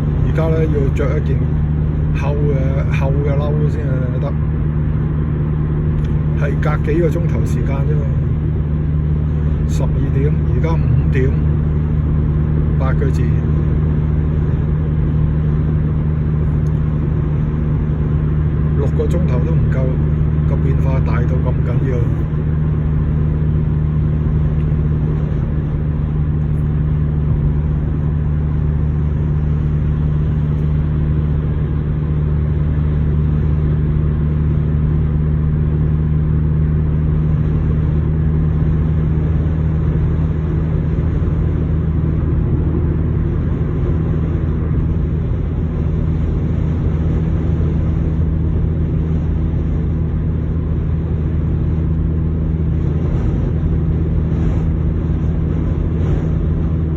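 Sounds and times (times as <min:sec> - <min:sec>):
car engine and tyre drone: 0:00.0 - 0:56.9.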